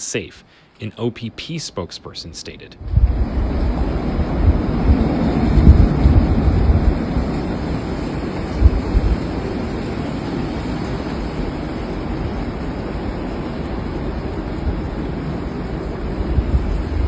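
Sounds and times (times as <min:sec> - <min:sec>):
snowstorm wind rushing: 0:02.8 - 0:17.0
wind buffeting microphone: 0:02.8 - 0:17.0.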